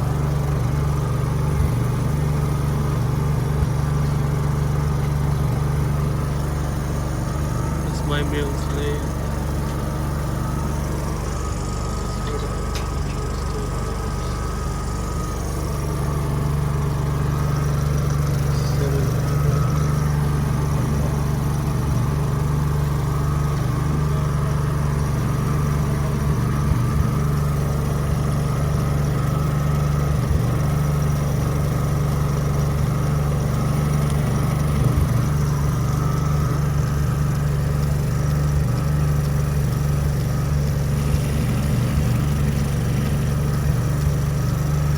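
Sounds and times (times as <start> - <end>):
generator engine running: 0.0 - 44.9.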